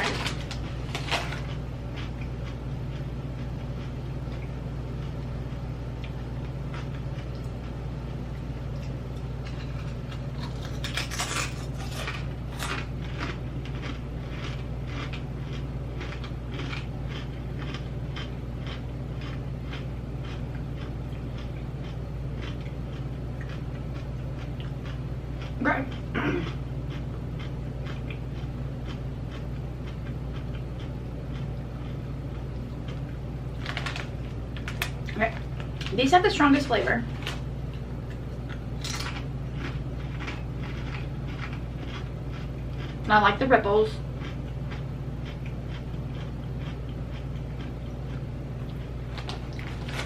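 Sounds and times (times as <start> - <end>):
chewing crunchy chips: 0.0 - 5.3, 6.0 - 7.9, 8.6 - 43.2, 44.0 - 50.0
constant low hum: 0.0 - 50.0.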